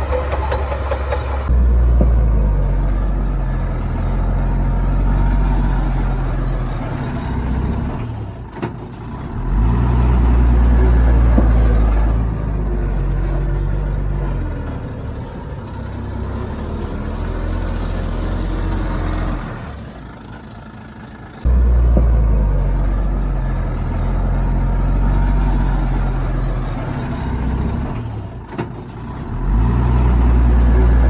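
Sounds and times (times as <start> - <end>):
bulldozer diesel engine under load: 0.0 - 31.0.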